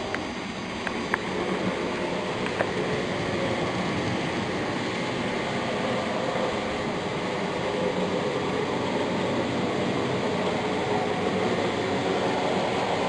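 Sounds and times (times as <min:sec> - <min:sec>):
model trains rolling on track: 0:00.0 - 0:13.0.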